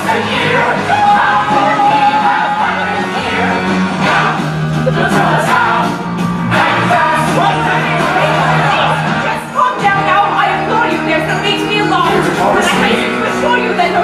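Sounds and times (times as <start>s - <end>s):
rock music with singing: 0.0s - 14.0s.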